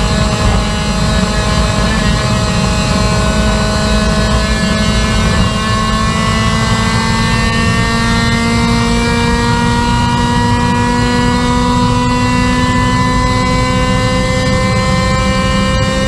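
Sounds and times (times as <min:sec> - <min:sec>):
race car engine pulling hard: 0:00.0 - 0:16.0
road and wind rumble: 0:00.0 - 0:16.0.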